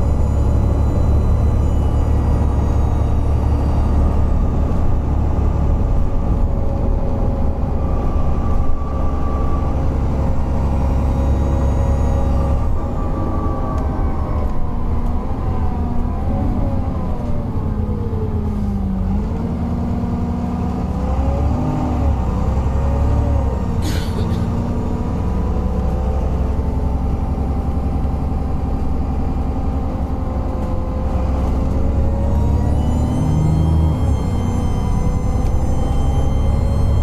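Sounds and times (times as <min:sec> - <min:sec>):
bus engine whining: 0:00.0 - 0:37.0.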